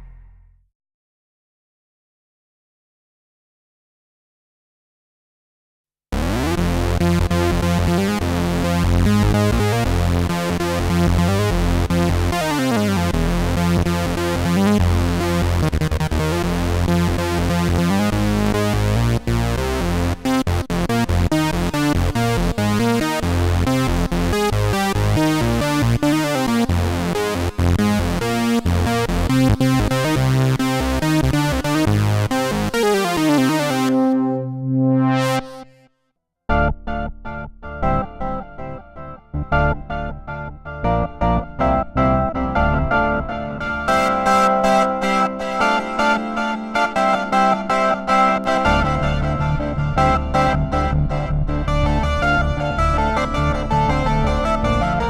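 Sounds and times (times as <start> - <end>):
synthesizer chords with pitch glides: 6.2 - 35.8, 36.5 - 55.0.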